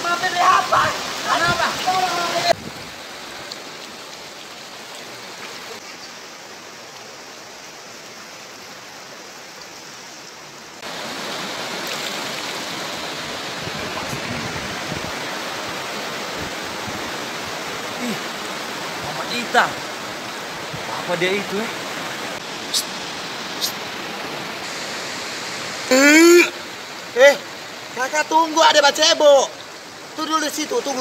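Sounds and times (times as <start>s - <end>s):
river rushing over rocks: 0.0s - 31.0s.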